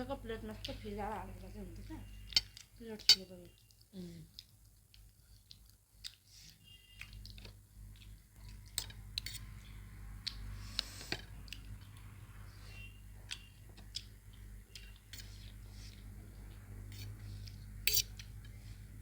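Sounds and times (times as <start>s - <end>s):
faint low hum: 0.0s - 19.0s
people chewing noodles: 0.0s - 19.0s.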